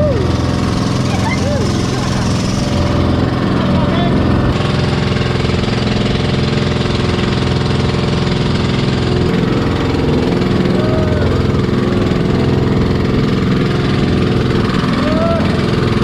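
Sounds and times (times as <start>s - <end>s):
boat engine running steadily: 0.0s - 16.0s.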